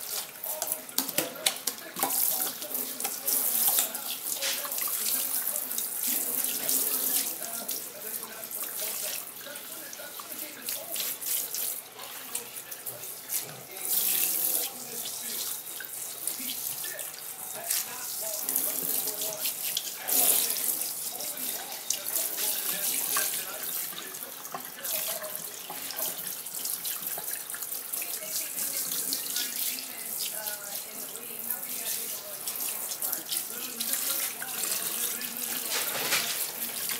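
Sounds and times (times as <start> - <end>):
sink sprayer water splashing: 0.0 - 36.9.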